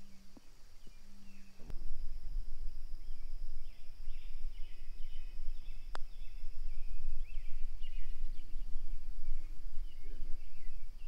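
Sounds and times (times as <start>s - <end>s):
birds chirping: 0.0s - 1.8s, 3.0s - 11.0s
constant low rumble: 0.0s - 11.0s
steady high-pitched tone: 0.0s - 11.0s.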